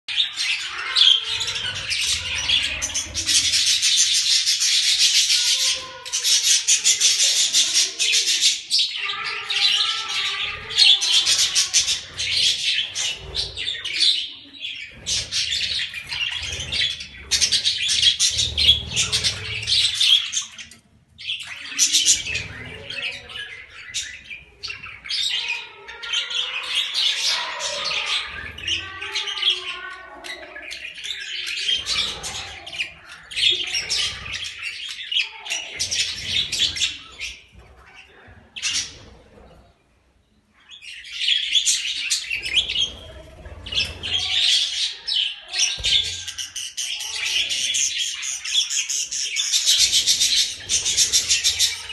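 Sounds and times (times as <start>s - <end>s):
budgerigars chattering and chirping: 0.1s - 39.7s, 40.6s - 51.9s.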